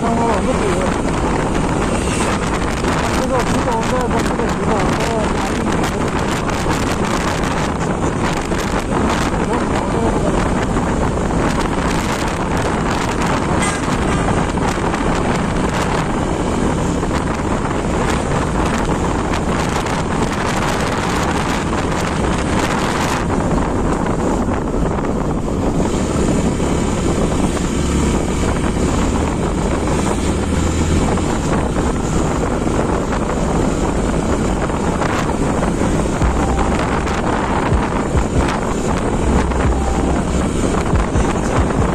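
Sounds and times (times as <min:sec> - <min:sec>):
motorcycle engine: 0:00.0 - 0:41.9
road noise: 0:00.0 - 0:41.9
wind rush on microphone: 0:00.0 - 0:41.9.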